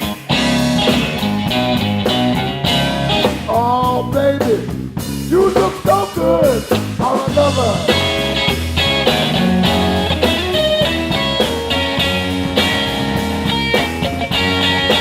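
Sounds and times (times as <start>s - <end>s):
blues rock band playing: 0.0s - 15.0s
electric guitar: 0.0s - 15.0s.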